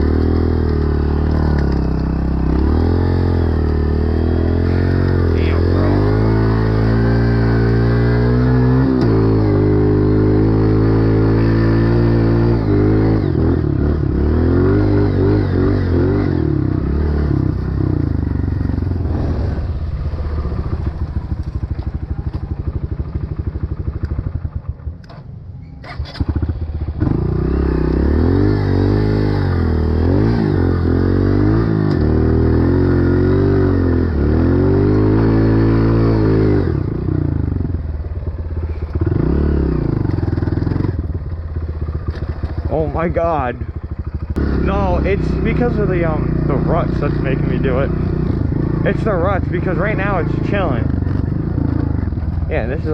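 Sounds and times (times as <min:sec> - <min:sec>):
dirt bike engine revving: 0:00.0 - 0:24.5, 0:25.8 - 0:52.9.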